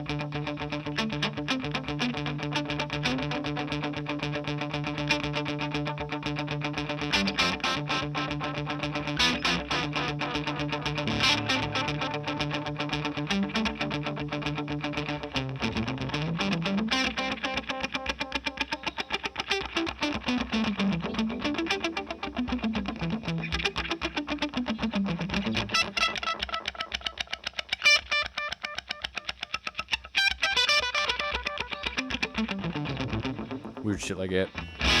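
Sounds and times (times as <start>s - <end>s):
distorted electric guitar with delay: 0.0s - 35.0s.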